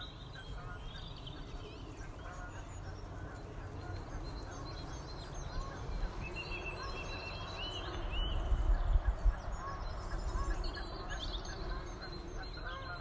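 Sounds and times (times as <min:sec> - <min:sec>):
bird calls and chirps: 0:00.0 - 0:13.0.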